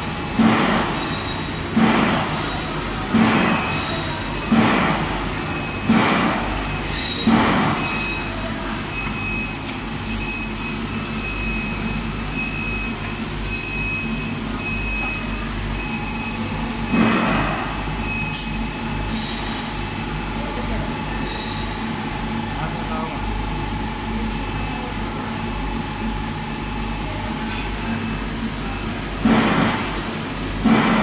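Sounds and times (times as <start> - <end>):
machine hum with high whine: 0.0 - 31.0.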